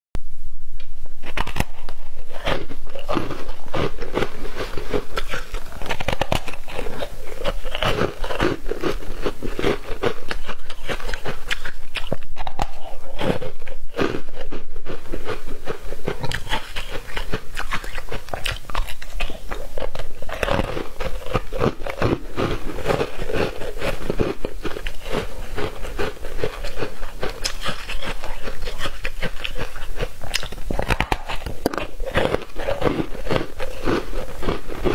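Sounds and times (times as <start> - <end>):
ice crunching while chewing: 1.3 - 34.9.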